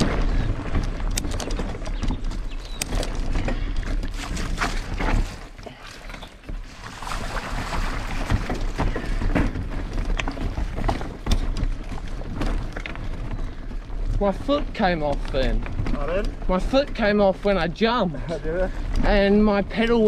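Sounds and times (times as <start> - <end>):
bike rattling on dirt trail: 0.0 - 20.0.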